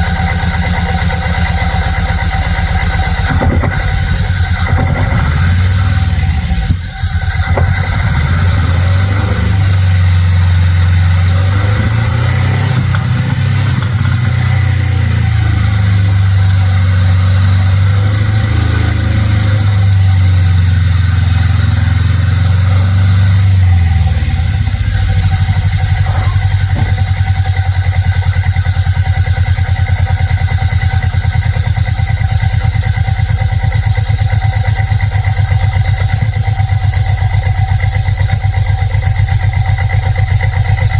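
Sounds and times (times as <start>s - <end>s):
pickup truck engine running: 0.0s - 40.9s.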